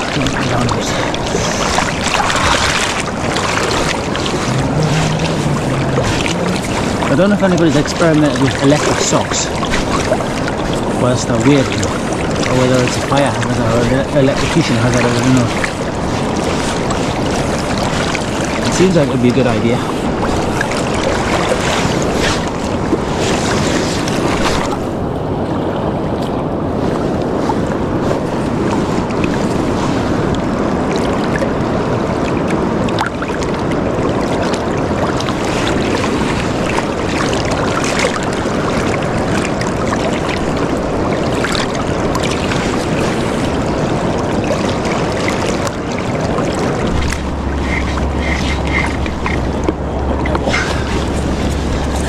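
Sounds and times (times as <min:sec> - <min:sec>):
river water rushing: 0:00.0 - 0:52.0
wind buffeting microphone: 0:00.0 - 0:52.0.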